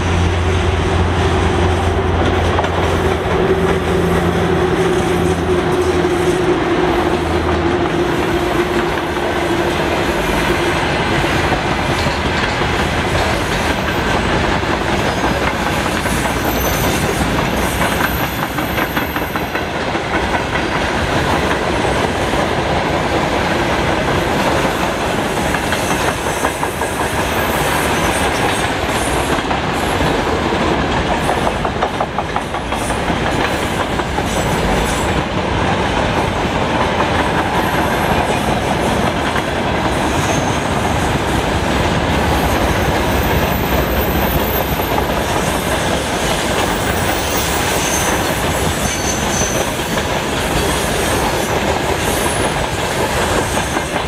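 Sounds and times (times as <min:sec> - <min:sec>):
electric locomotive hum: 0:00.0 - 0:48.8
wheels clacking over rail joints: 0:00.1 - 0:54.0.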